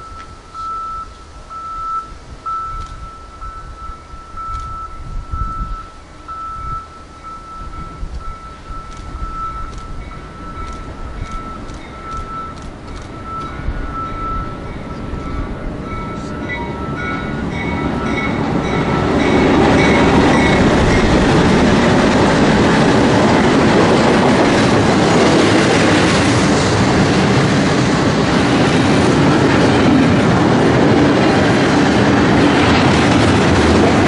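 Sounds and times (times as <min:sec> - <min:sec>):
freight train wheels clattering: 0:00.0 - 0:34.0.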